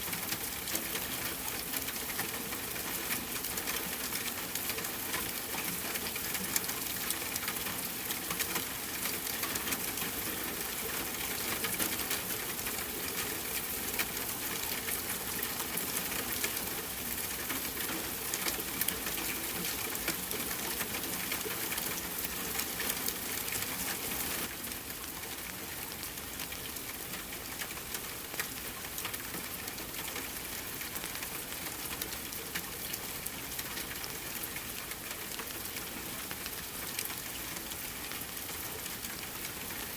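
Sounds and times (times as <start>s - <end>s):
rain against a window: 0.0s - 39.9s.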